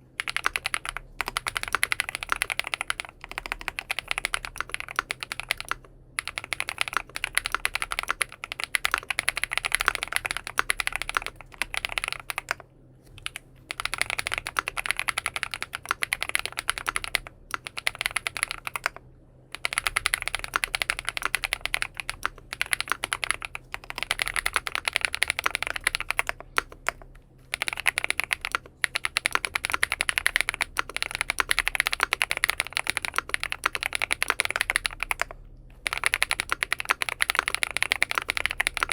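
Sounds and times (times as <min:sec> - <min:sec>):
mechanical keyboard typing: 0:00.2 - 0:38.9.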